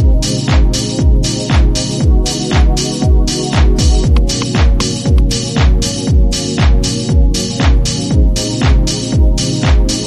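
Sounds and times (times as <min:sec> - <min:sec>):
electronic dance music: 0:00.0 - 0:10.0
hi-hats: 0:00.0 - 0:10.0
kick drum: 0:00.0 - 0:10.0.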